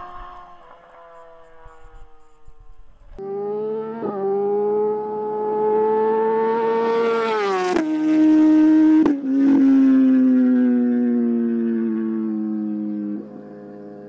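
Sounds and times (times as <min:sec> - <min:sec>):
motorcycle accelerating past: 0:00.0 - 0:14.0.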